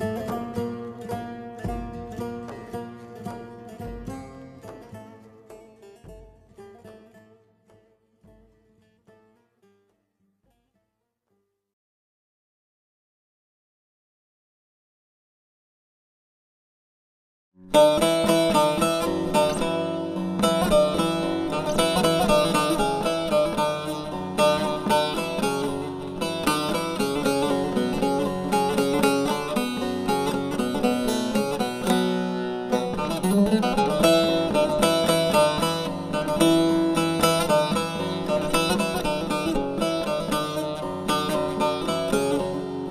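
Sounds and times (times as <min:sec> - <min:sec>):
folk music on plucked strings: 0:00.0 - 0:11.5, 0:17.6 - 0:42.9.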